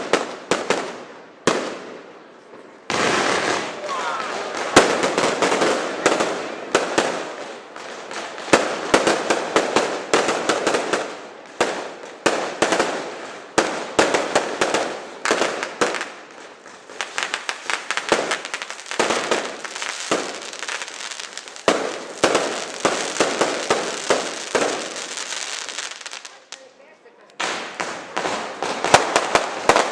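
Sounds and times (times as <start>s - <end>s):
fireworks bursting: 0.0s - 29.9s.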